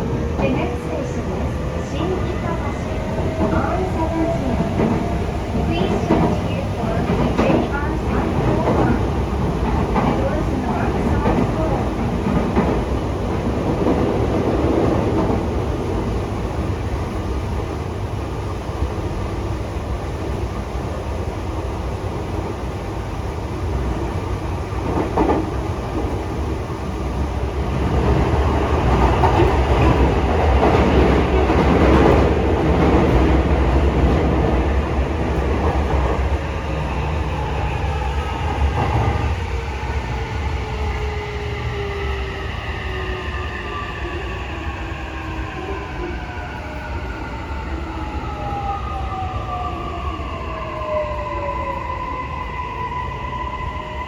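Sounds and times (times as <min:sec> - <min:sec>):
rumble of train wheels on rail: 0:00.0 - 0:54.0.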